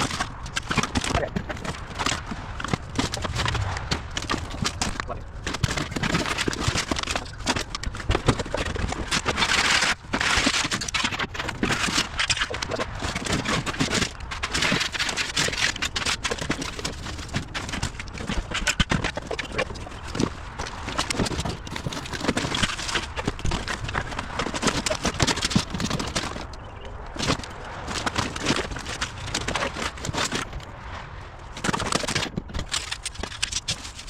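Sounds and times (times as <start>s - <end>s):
clatter of knocks and scrapes: 0.0s - 30.7s, 31.5s - 34.0s
rustling noise: 0.0s - 34.0s.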